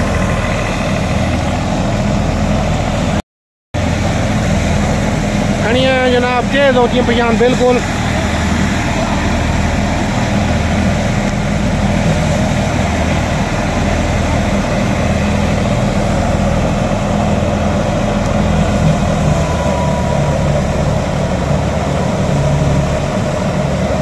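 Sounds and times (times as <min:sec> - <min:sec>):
tractor engine running under load: 0:00.0 - 0:03.2, 0:03.8 - 0:24.0
wheat thresher droning: 0:00.0 - 0:03.2, 0:03.8 - 0:24.0.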